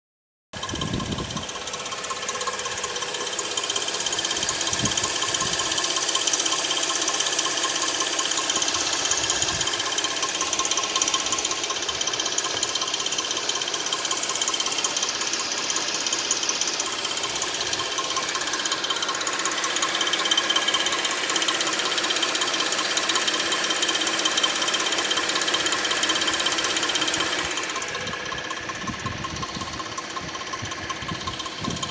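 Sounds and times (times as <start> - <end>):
engine metallic ticking clatter: 0.6 - 31.9.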